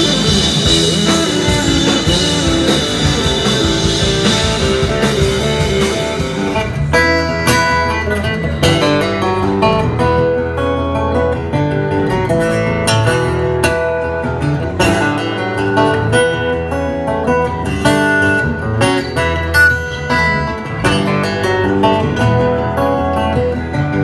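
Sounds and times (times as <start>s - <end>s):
acoustic guitar: 0.0s - 24.0s
electric bass notes: 0.0s - 24.0s.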